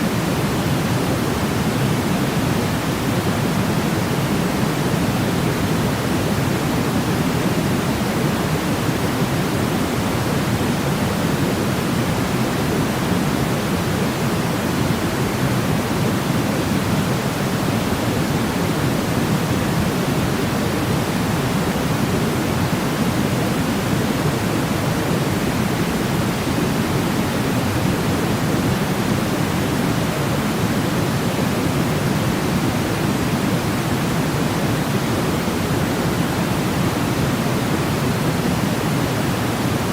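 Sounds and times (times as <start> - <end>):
low white noise: 0.0 - 39.9.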